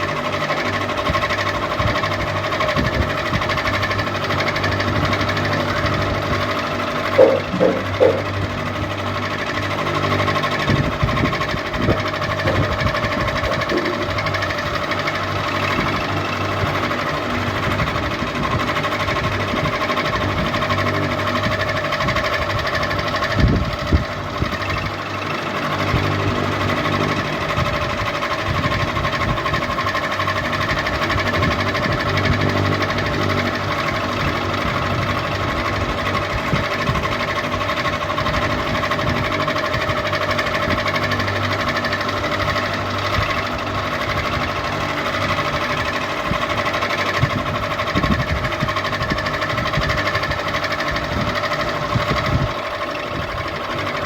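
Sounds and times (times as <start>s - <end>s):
ceiling fan humming and clattering: 0.0s - 54.0s.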